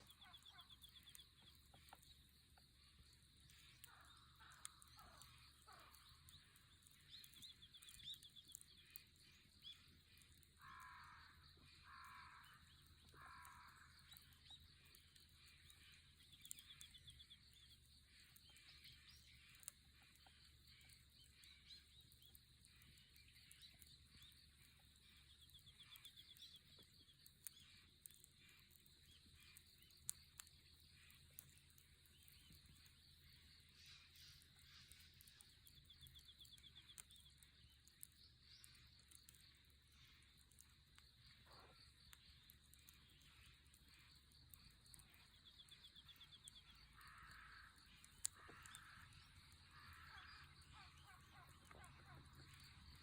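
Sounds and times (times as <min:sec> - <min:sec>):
campfire crackling: 0:00.0 - 0:53.0
faint high insect trills: 0:00.0 - 0:53.0.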